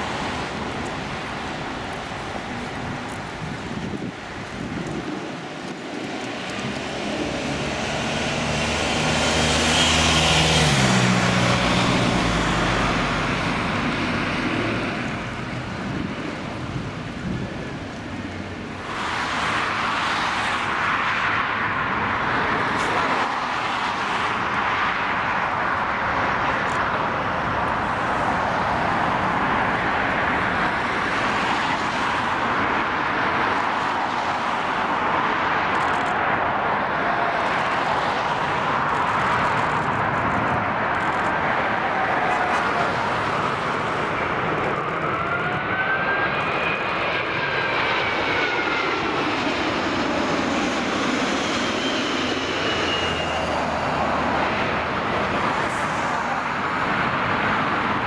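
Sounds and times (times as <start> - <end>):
jet engines passing overhead: 0.0 - 58.0
steady rush of jet engines: 0.0 - 58.0.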